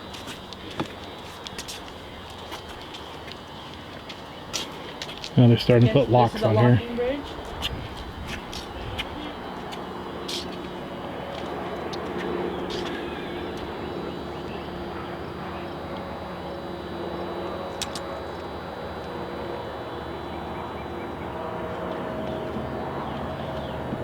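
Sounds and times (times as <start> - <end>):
steady engine drone: 0.0 - 24.0.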